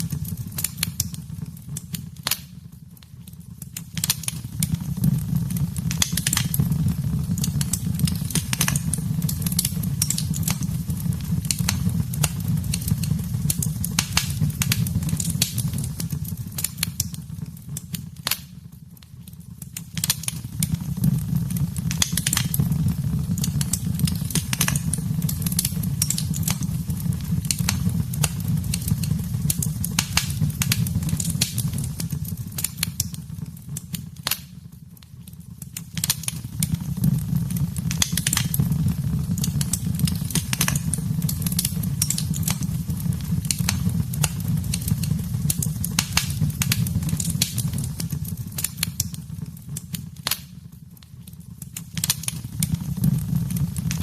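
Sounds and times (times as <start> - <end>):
fireplace wood crackling and popping: 0.0 - 54.0
low rumble of flames: 0.0 - 54.0.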